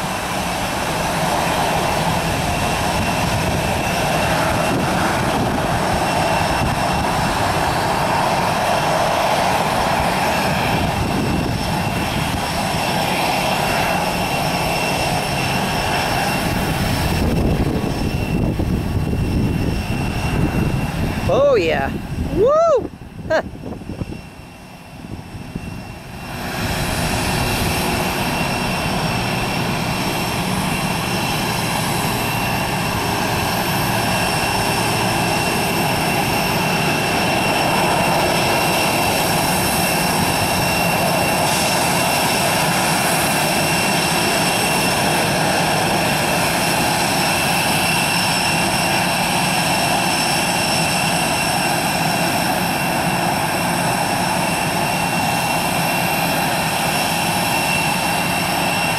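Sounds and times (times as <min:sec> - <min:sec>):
jet engines at high thrust: 0:00.0 - 0:58.9.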